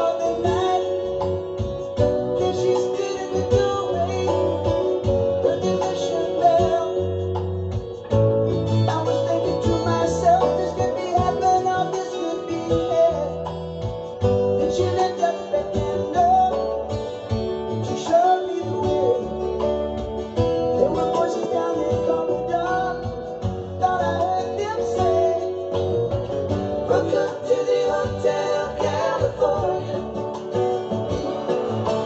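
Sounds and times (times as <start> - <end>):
acoustic guitar music: 0.0 - 32.0.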